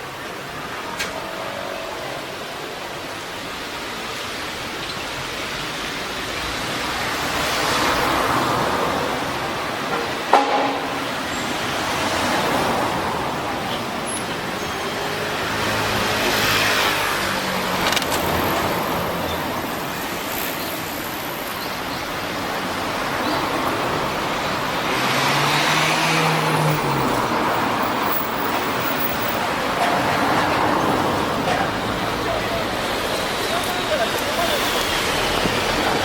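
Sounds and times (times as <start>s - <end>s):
cars passing by: 0.0s - 36.0s.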